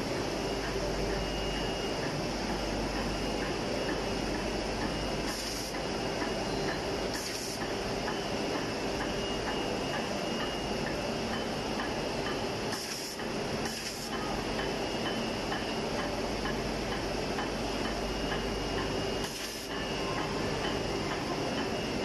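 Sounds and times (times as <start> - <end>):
machine humming and clattering: 0.0 - 22.0.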